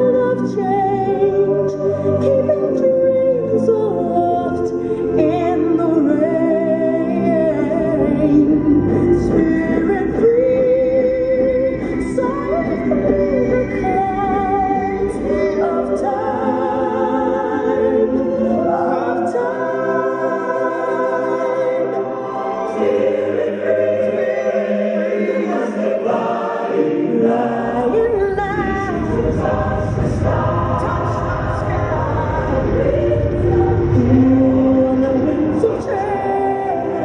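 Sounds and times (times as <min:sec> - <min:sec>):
choir singing held notes: 0:00.0 - 0:37.0
musical accompaniment: 0:00.0 - 0:37.0.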